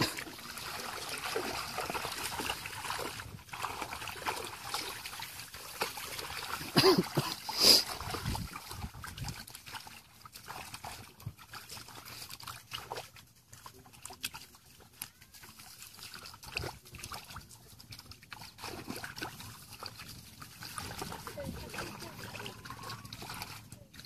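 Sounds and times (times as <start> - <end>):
muddy water sloshing: 0.0 - 24.0
small splashes: 0.0 - 24.0.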